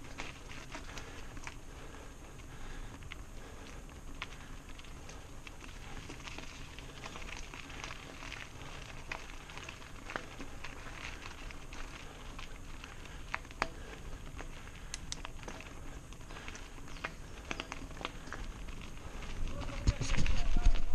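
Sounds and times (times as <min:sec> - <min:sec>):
bike clicks and rattles: 0:00.0 - 0:20.9
bike tyres crunching on gravel: 0:00.0 - 0:20.9.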